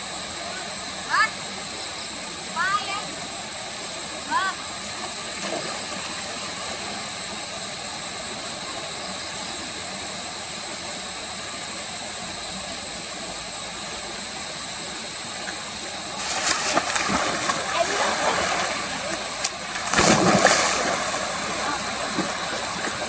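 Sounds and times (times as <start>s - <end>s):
high steady whine: 0.0s - 23.0s.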